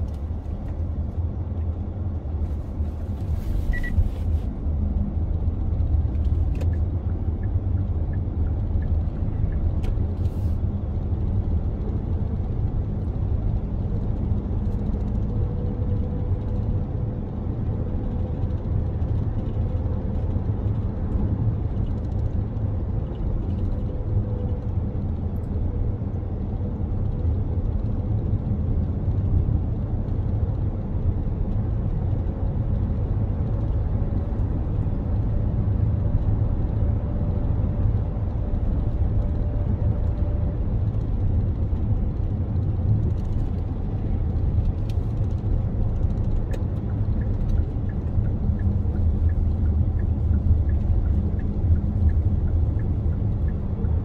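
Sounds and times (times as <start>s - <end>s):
car tyres and engine rumble: 0.0s - 54.0s.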